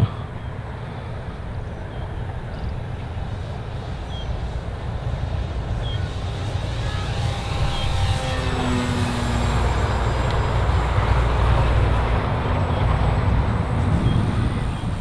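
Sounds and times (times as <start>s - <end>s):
model plane motor and propeller whine: 0.0s - 15.0s
wind rumble on microphone: 0.0s - 15.0s.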